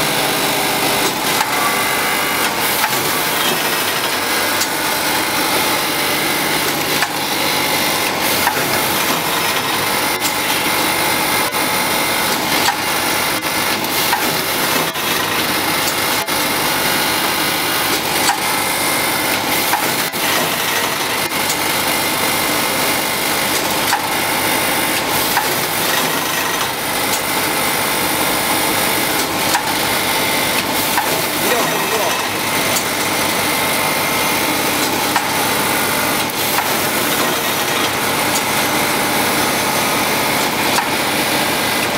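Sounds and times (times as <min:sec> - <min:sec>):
packaging machine whirring: 0:00.0 - 0:41.9
machine clicks and knocks: 0:01.0 - 0:11.5, 0:12.2 - 0:21.9, 0:22.9 - 0:31.6, 0:34.6 - 0:41.9.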